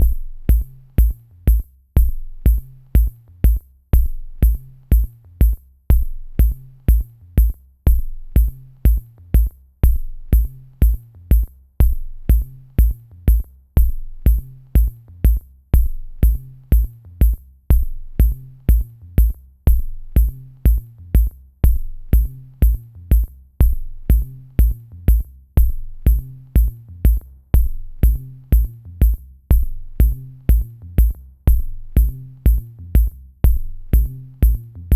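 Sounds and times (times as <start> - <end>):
bass line: 0.0 - 34.9
deep kick drum: 0.0 - 34.9.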